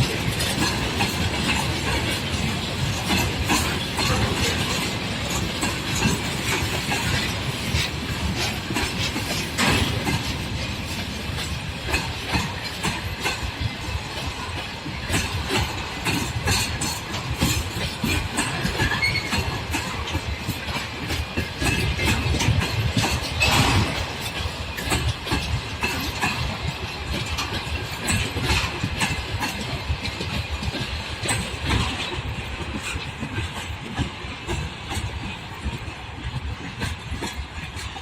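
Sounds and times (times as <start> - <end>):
rumble of freight wagons: 0.0 - 38.0
train wheels knocking on rail joints: 0.0 - 38.0.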